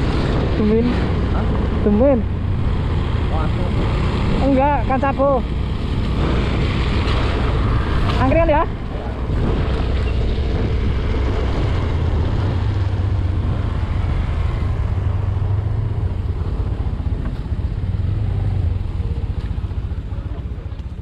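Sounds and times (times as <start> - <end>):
wind on microphone: 0.0 - 20.6
road noise: 0.0 - 21.0
scooter engine running: 2.2 - 21.0.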